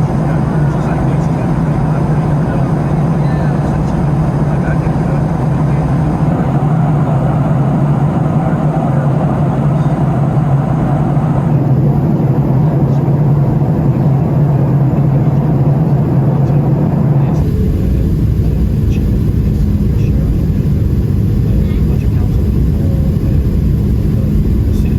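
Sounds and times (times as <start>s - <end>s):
jet engine cabin drone: 0.0s - 24.9s.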